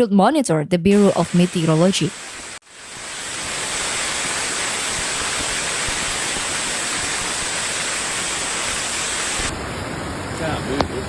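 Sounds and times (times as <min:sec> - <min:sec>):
rushing storm water: 0:01.0 - 0:11.0.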